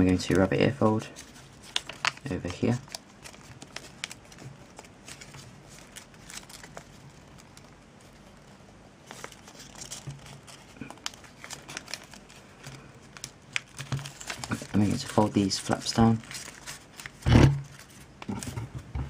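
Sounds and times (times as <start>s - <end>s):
paper crinkling and rustling: 0.0s - 18.7s.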